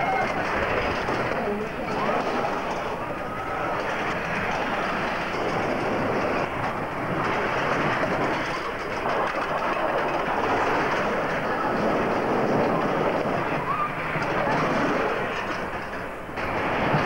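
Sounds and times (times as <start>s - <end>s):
roller coaster wheels on rails: 0.0s - 17.0s.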